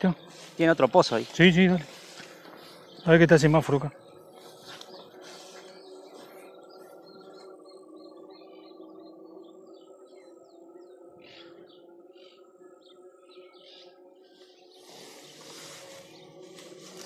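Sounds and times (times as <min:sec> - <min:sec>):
insect-like trill and drone: 0:00.0 - 0:17.0
small birds chirping: 0:00.0 - 0:17.0.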